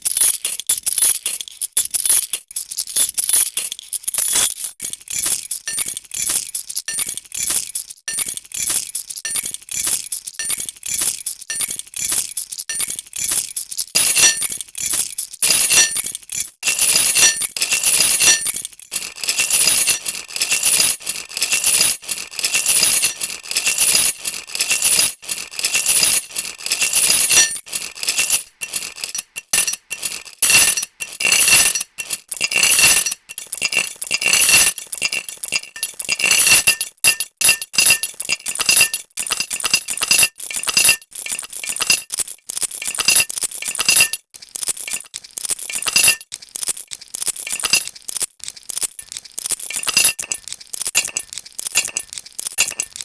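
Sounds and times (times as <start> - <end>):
metal keys jingling: 0.0 - 47.9.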